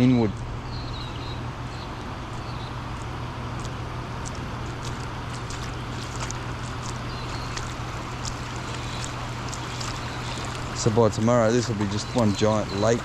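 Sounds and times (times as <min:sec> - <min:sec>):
low hum: 0:00.0 - 0:13.0
small high ticks: 0:02.0 - 0:13.0
floodwater rushing: 0:02.1 - 0:13.0.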